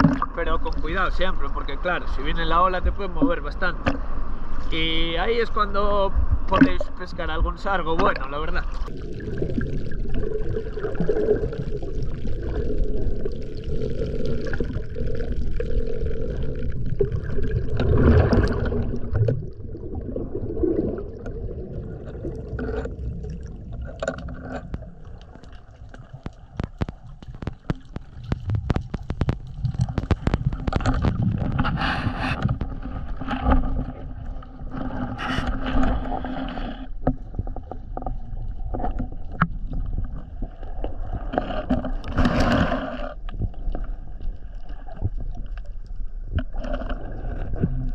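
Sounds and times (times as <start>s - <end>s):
underwater washing surge: 0.0s - 4.6s, 6.0s - 37.0s, 38.5s - 45.6s
underwater clicks and ticks: 0.0s - 47.9s
underwater water rushing and bubbling: 0.0s - 47.9s.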